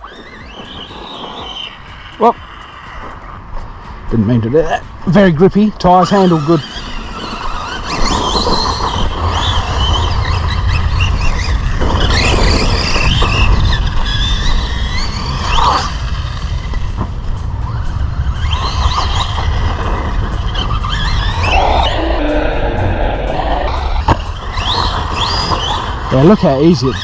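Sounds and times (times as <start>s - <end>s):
rc truck motor whining: 0.0s - 3.4s, 5.2s - 27.0s.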